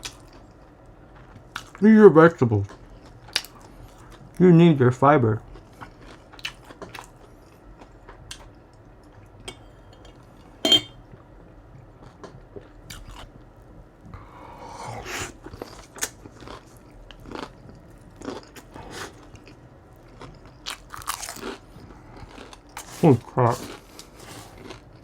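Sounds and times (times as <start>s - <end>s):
chewing and crunching food: 0.0s - 25.0s.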